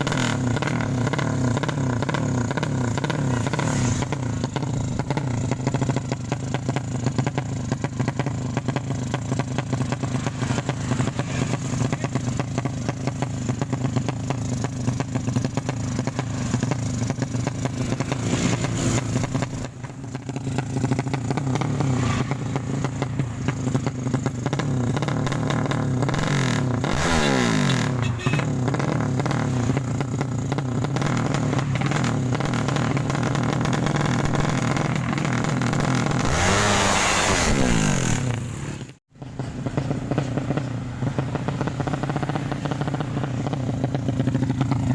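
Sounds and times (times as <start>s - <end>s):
motorcycle engine running loud: 0.0s - 44.9s.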